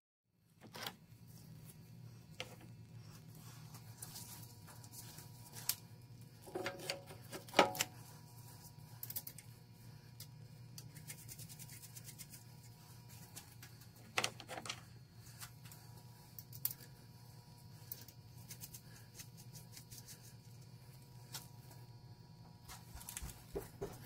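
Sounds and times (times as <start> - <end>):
steady low hum: 0.4 - 24.0.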